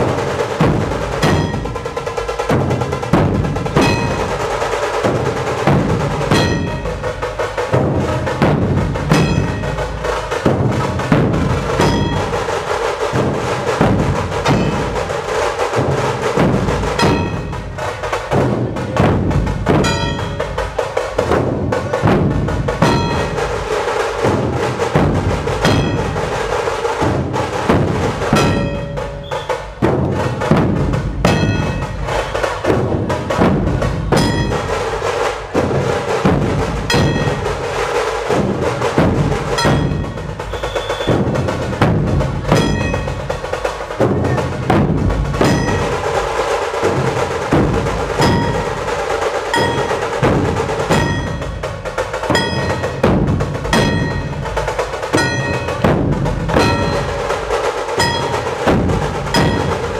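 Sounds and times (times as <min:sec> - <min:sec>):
drum ensemble playing loud rhythm: 0:00.0 - 0:59.9.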